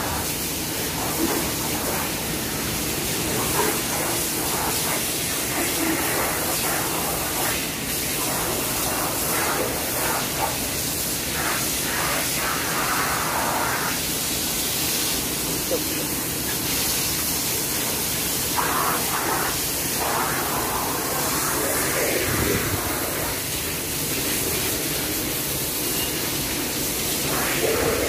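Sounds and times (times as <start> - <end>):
hose water splashing on concrete: 0.0 - 28.0.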